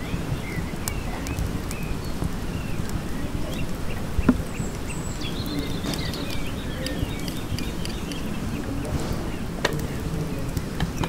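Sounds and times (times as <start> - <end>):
insects buzzing: 0.0 - 11.0
short chirping calls: 0.0 - 11.0.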